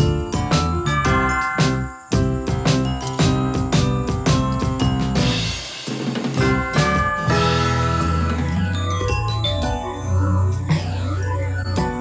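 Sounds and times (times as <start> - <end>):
background music with drums: 0.0 - 10.0, 11.8 - 12.0.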